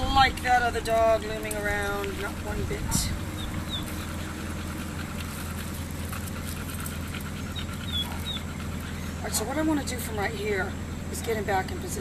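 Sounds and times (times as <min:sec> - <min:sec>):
low rumble: 0:00.0 - 0:12.0
dog panting: 0:00.1 - 0:10.6.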